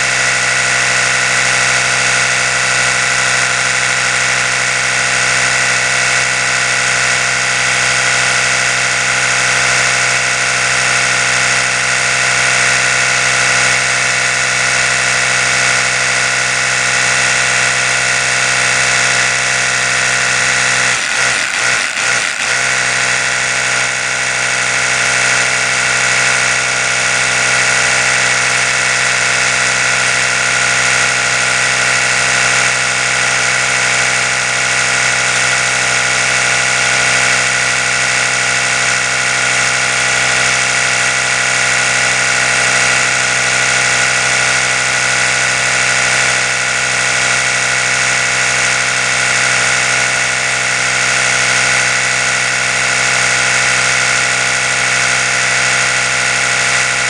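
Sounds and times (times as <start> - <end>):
electric toothbrush buzzing: 0.0 - 57.0.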